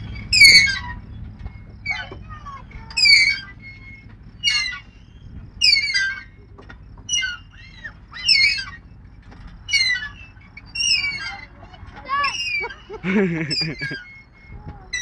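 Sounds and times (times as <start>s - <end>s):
swing chains squealing: 0.0s - 15.0s.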